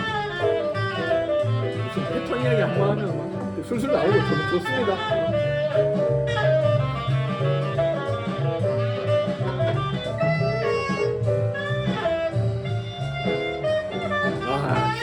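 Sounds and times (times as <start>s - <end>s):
jazz drums: 0.0s - 15.0s
saxophone melody: 0.0s - 15.0s
walking double bass: 0.0s - 15.0s.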